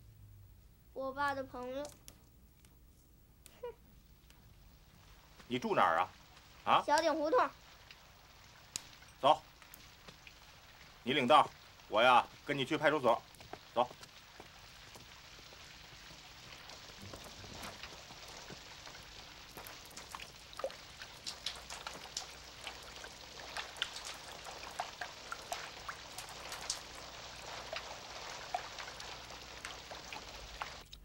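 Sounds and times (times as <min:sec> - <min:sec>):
raindrops ticking: 0:03.4 - 0:31.0
rain on a tiled roof: 0:03.6 - 0:31.0.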